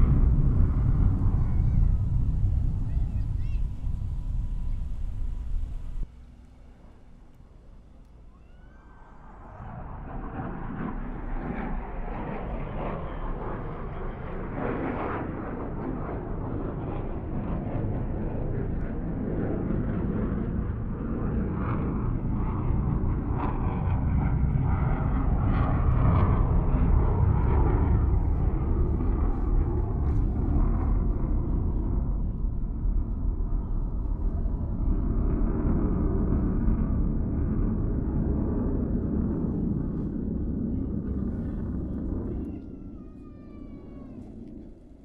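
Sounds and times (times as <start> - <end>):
distant fighter jet rumble: 0.0 - 45.0.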